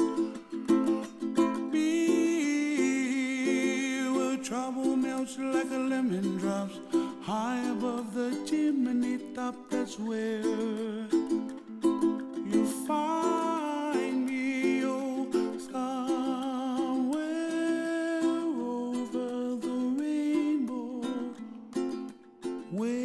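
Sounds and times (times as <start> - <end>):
strummed ukulele: 0.0 - 23.0.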